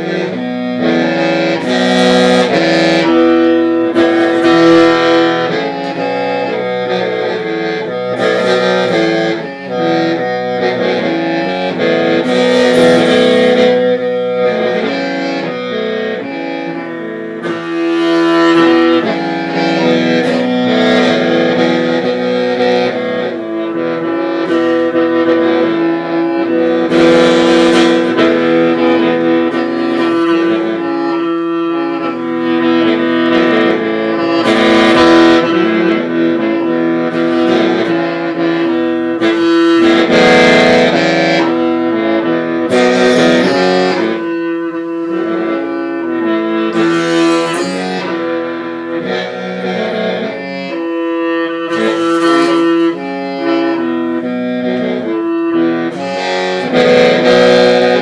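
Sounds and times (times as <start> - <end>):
bamboo mouth organ playing: 0.0 - 58.0.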